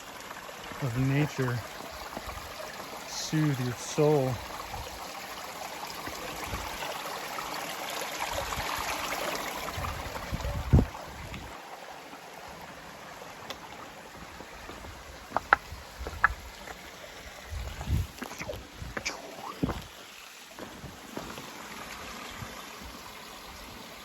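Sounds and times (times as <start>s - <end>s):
stream trickling over stones: 0.0s - 24.0s.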